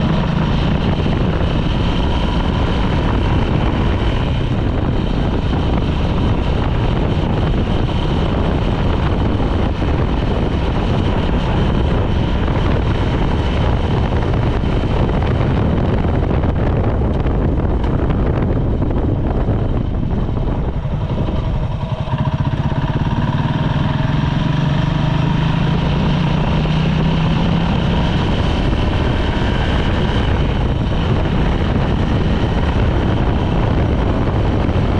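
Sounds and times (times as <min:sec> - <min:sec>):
heavy wind noise: 0:00.0 - 0:34.9
motorcycle engine running: 0:00.0 - 0:34.9.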